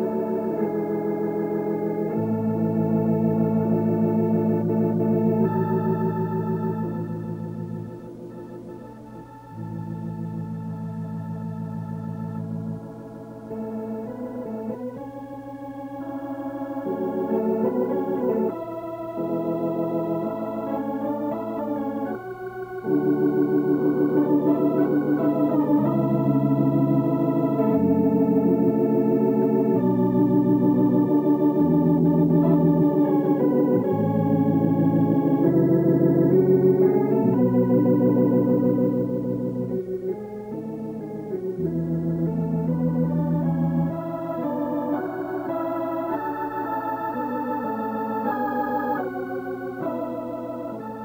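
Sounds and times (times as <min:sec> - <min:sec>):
organ chords with vibrato: 0:00.0 - 0:51.0.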